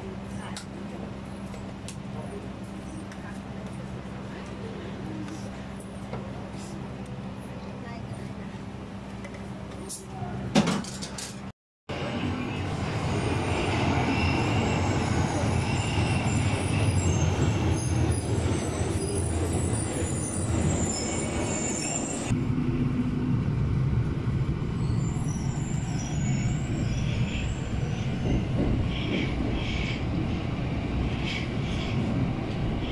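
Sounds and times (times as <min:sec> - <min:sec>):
subway train running: 0:00.0 - 0:32.9.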